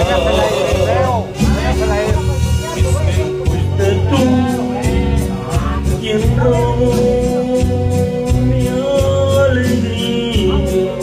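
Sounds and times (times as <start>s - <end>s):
man singing into a microphone: 0.0s - 2.2s, 2.8s - 11.0s
backing music with bass and beat: 0.0s - 11.0s.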